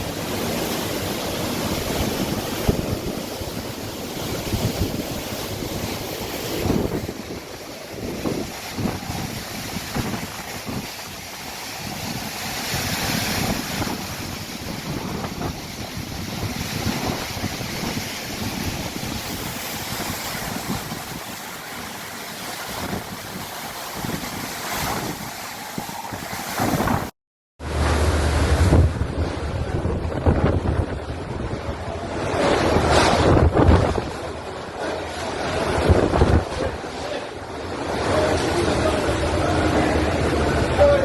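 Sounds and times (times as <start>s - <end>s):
wind buffeting microphone: 0.0s - 27.1s, 27.7s - 41.0s
strong wind gusts: 0.0s - 41.0s.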